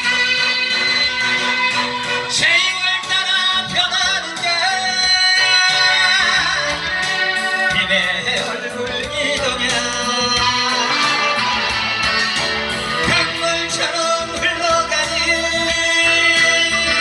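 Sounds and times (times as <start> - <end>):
band with guitar: 0.0 - 17.0
person singing with vibrato: 0.0 - 17.0.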